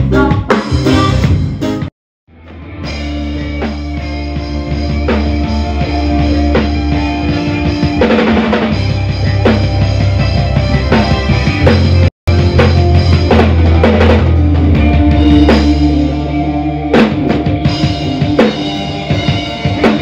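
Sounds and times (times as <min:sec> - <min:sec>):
live band playing: 0:00.0 - 0:20.0.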